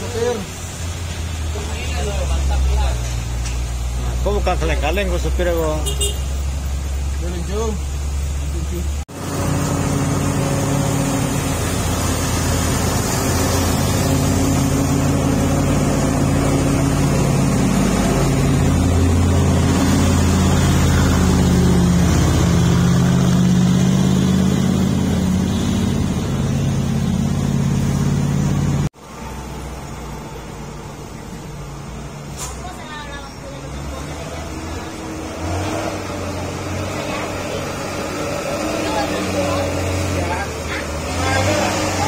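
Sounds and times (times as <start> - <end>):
truck diesel engine drone: 0.0 - 42.0.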